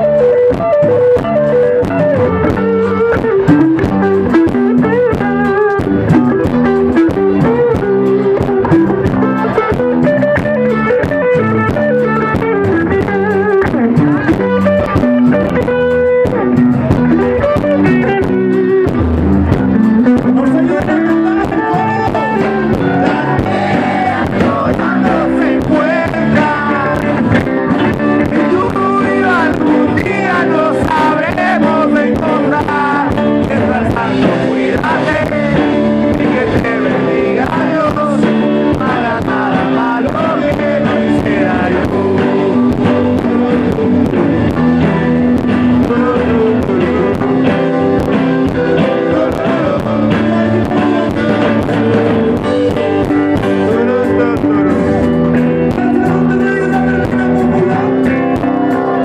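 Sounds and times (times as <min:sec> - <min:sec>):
guitars and bass: 0:00.0 - 0:59.0
steady drum beat: 0:00.0 - 0:59.0.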